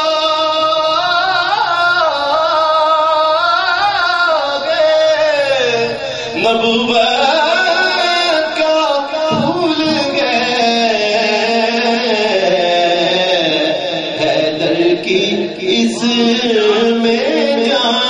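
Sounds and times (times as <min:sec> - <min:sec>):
man singing melismatic lines: 0:00.0 - 0:18.0.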